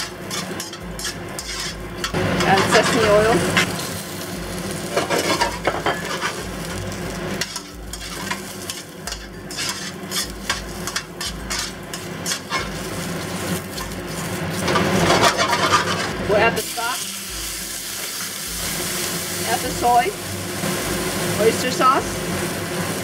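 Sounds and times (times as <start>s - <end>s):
mushrooms sizzling in hot oil: 0.0s - 23.0s.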